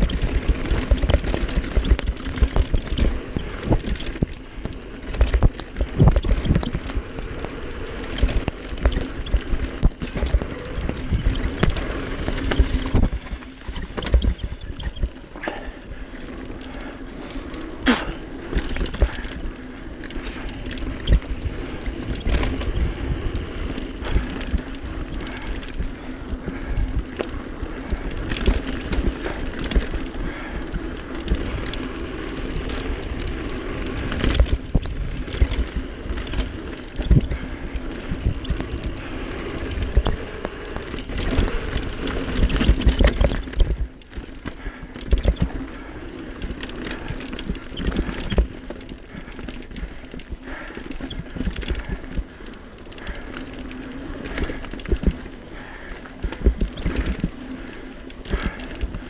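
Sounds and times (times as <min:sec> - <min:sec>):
bike clacking and rattling: 0:00.0 - 0:59.0
tyres rolling on dirt: 0:00.0 - 0:59.0.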